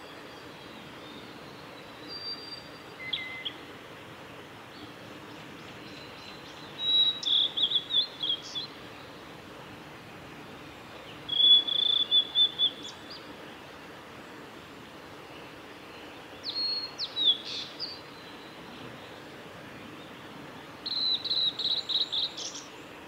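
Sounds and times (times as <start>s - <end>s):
bird singing: 0.0s - 3.7s, 4.7s - 9.4s, 10.7s - 13.3s, 15.3s - 23.0s.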